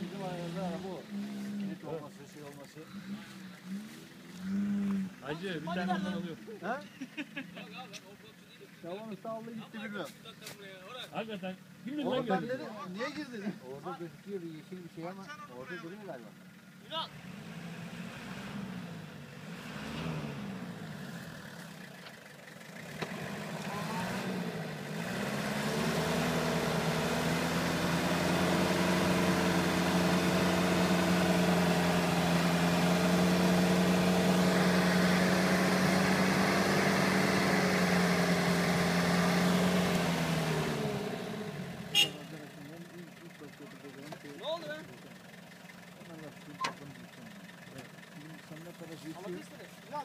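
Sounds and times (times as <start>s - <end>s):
off-road vehicle engine revving: 0.0s - 50.0s.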